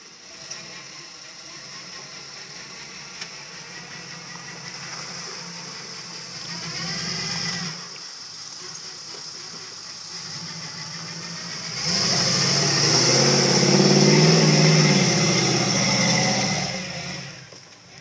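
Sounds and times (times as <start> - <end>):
pickup truck engine revving: 0.0 - 8.0, 9.6 - 18.0.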